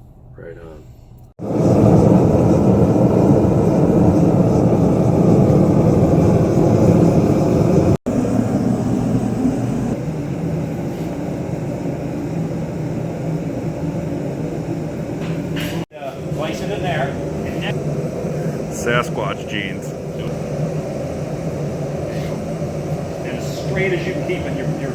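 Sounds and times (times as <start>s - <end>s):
forge roaring: 1.4s - 24.9s.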